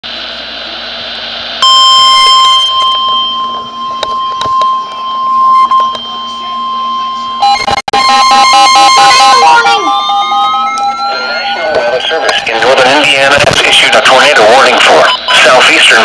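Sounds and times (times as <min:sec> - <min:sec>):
steady alarm tone: 0:01.0 - 0:16.0
pulsing alarm: 0:01.6 - 0:16.0.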